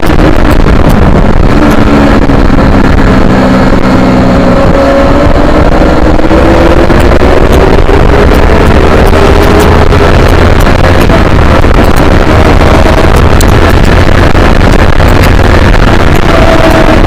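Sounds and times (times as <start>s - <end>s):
motorcycle engine running hard: 0.0s - 17.0s
wind noise on microphone: 0.0s - 17.0s.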